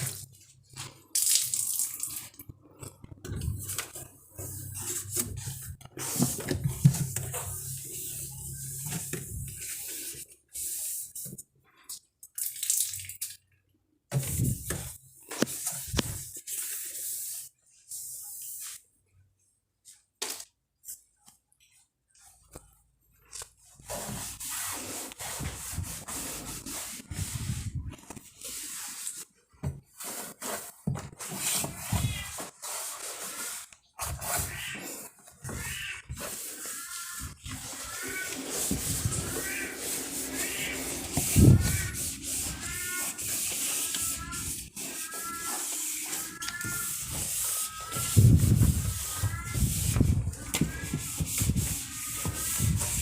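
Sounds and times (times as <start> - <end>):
wiping and rinsing with water: 0.0 - 19.2, 23.6 - 53.0.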